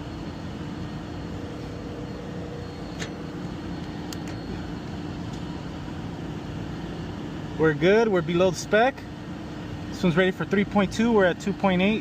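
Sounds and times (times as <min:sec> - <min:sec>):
blower whirring and humming: 0:00.0 - 0:12.0.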